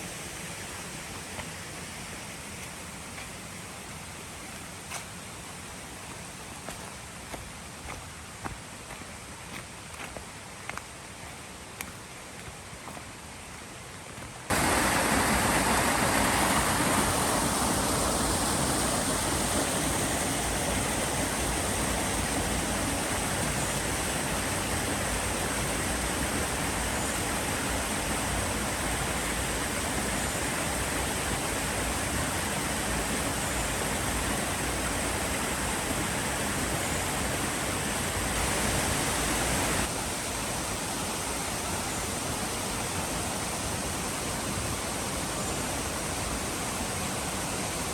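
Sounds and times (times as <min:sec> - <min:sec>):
cascading water in a stream: 0:00.0 - 0:47.9.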